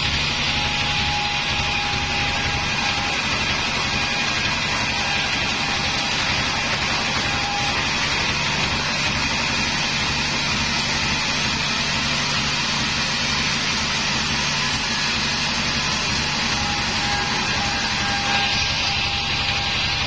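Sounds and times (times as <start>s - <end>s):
band saw cutting timber: 0.0s - 20.0s
machine drive drone: 0.0s - 20.0s.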